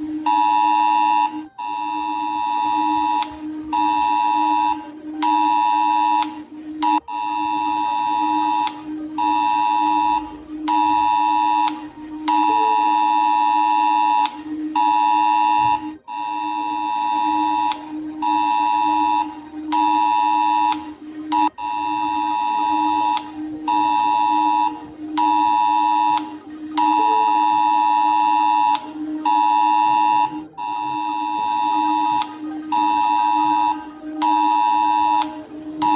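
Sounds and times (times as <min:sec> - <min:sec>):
steady low hum: 0:00.0 - 0:35.9
harsh two-tone alert beeps: 0:00.3 - 0:35.9.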